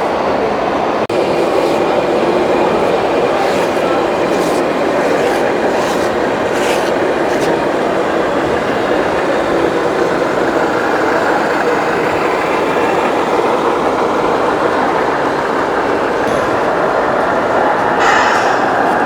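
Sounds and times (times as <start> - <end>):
busy exhibition hall din: 0.0 - 19.0.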